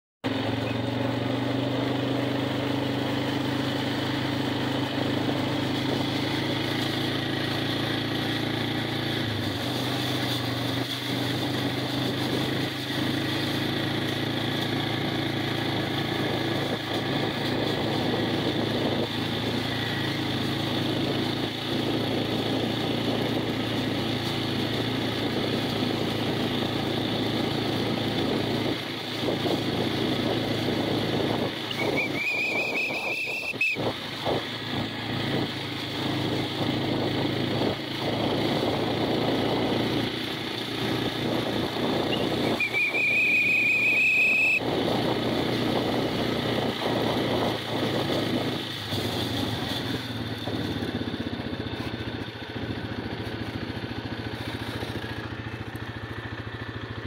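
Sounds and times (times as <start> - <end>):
off-road vehicle engine running: 0.2 - 57.0.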